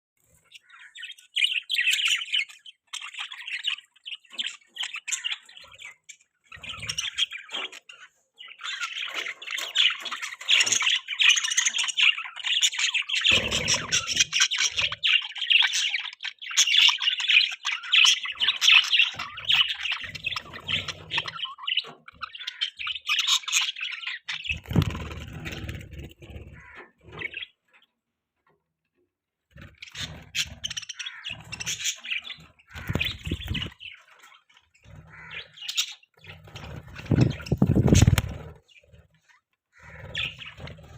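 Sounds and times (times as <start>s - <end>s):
budgerigars chirping and chattering: 0.2s - 28.0s, 29.5s - 40.9s.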